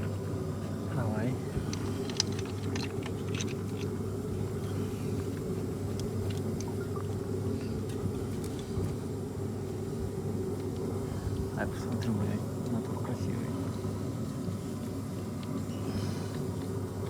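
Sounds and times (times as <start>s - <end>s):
low workshop drone: 0.0s - 17.0s.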